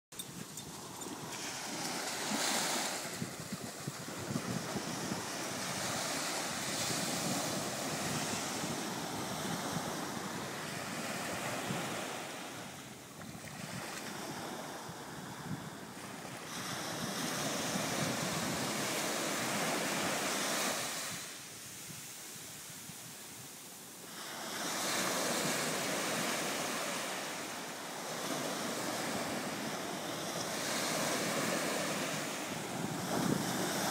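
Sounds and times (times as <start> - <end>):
waves washing up a beach: 0.3 - 33.9.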